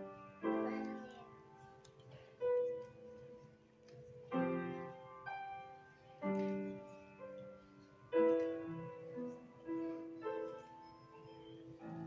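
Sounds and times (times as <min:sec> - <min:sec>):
grand piano chords and notes: 0:00.0 - 0:12.0.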